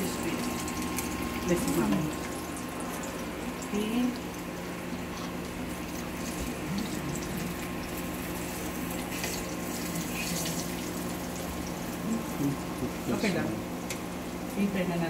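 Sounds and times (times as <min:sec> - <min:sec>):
food sizzling in oil: 0:00.0 - 0:15.0
low steady hum: 0:00.0 - 0:15.0.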